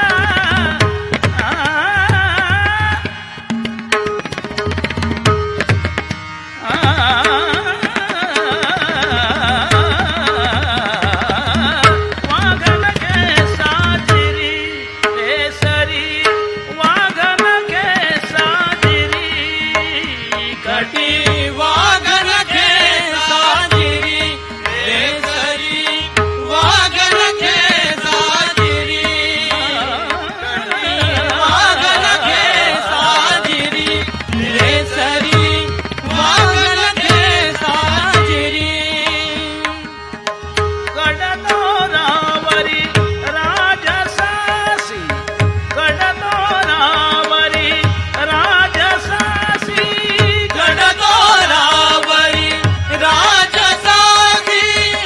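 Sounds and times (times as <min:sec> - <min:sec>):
tabla rhythm: 0:00.0 - 0:55.0.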